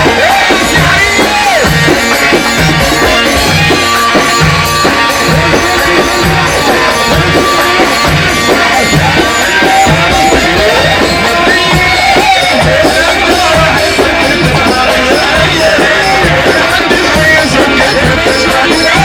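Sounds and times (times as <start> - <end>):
instrumental band music: 0.0 - 19.0
repeating drum beat: 0.0 - 19.0.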